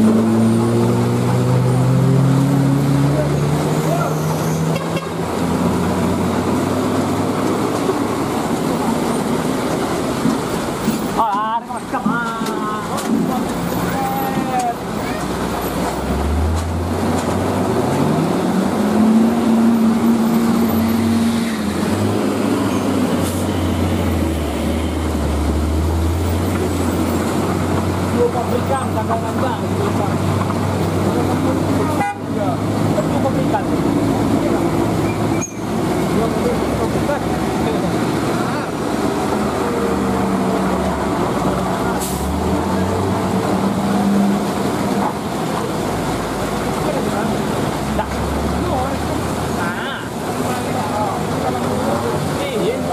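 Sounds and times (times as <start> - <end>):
diesel truck engine rumble: 0.0 - 52.9
tyres hissing on wet road: 0.0 - 52.9.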